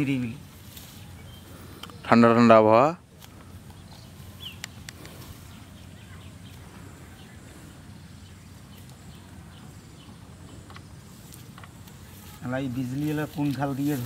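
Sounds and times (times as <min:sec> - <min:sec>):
bird chirp: 0:00.0 - 0:02.2, 0:03.4 - 0:14.0
low background noise: 0:00.0 - 0:14.0.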